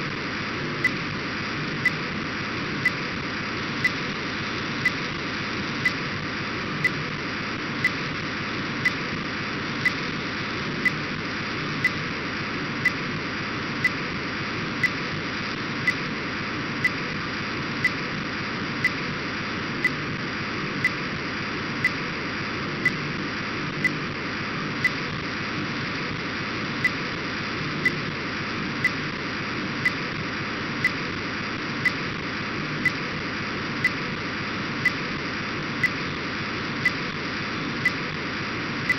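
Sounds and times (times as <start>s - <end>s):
radio data signal hiss: 0.1s - 38.9s.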